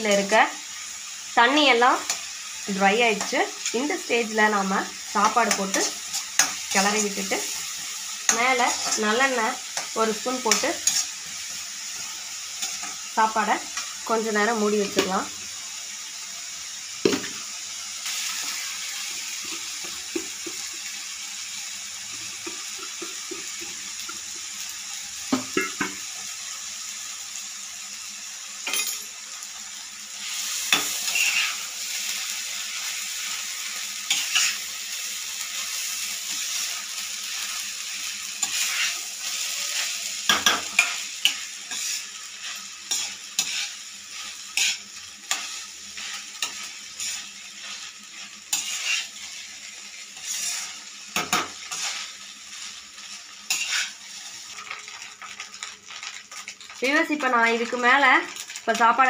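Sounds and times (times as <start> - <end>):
rice sizzling in oil: 0.0 - 59.0.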